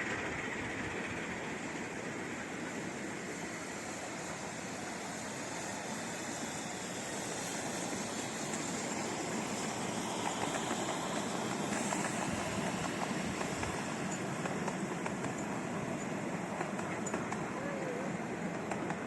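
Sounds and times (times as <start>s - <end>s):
train rumbling and hissing: 0.0s - 19.0s.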